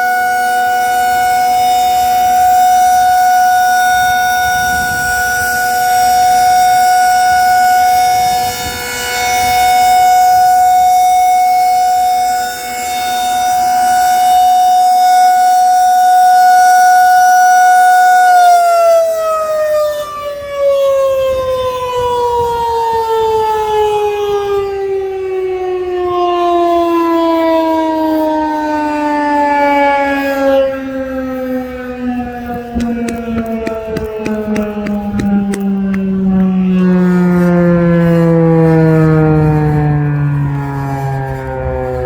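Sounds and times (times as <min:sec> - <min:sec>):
rotating warning siren: 0:00.0 - 0:42.0.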